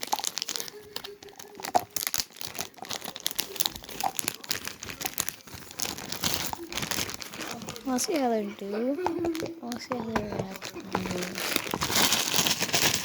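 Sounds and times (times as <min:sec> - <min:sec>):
crinkling and rustling: 0:00.0 - 0:13.0.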